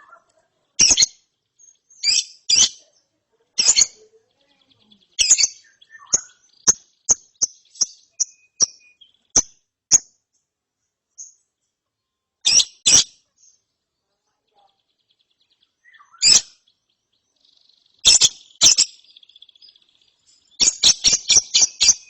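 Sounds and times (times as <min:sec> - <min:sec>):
lovebird chirping: 0:00.0 - 0:22.0.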